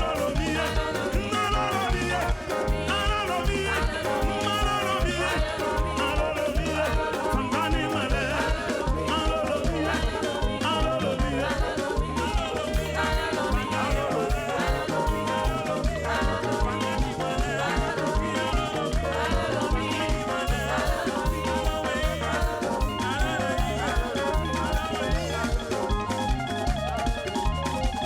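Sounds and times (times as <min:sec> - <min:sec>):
upbeat gospel praise music: 0:00.0 - 0:28.0.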